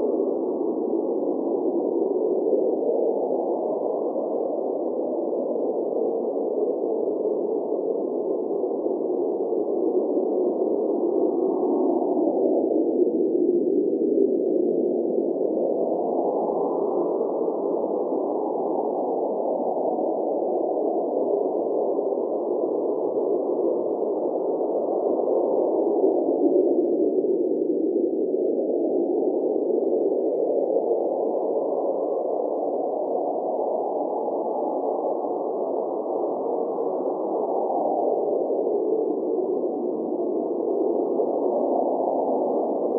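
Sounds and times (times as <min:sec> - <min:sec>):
blizzard wind blowing: 0:00.0 - 0:42.9.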